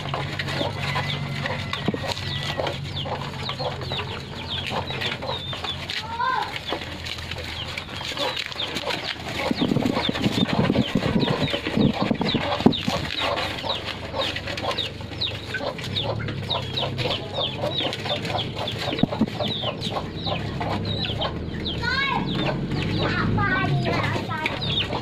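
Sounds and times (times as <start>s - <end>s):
puppies eating noisily: 0.0s - 25.0s.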